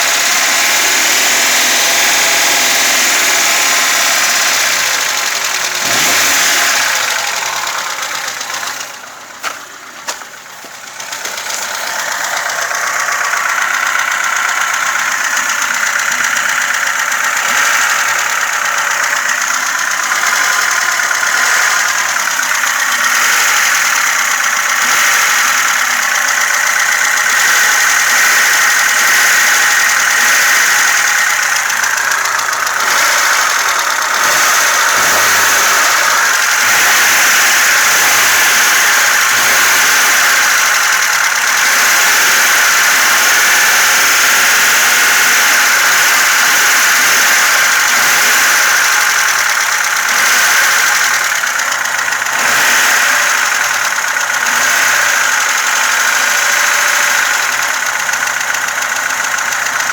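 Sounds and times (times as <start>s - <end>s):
car engine with valve clatter: 0.0s - 59.9s.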